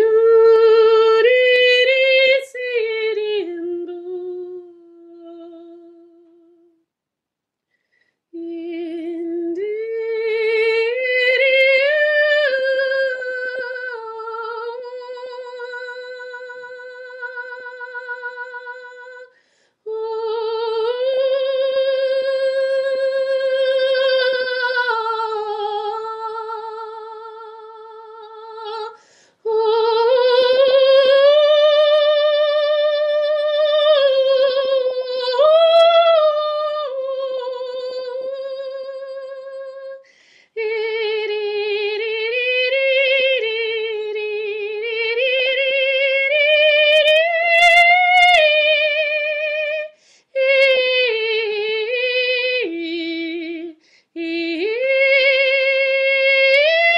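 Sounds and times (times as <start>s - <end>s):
woman singing wordless tones: 0.0s - 6.8s, 8.3s - 56.9s.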